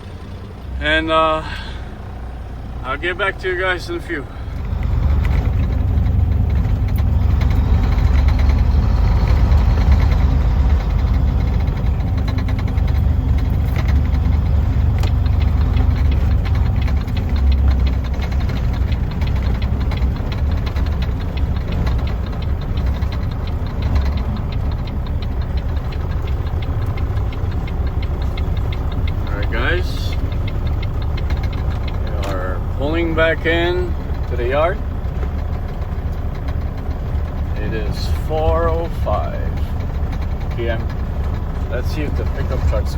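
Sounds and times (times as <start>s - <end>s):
truck diesel engine rumbling: 0.0s - 42.9s.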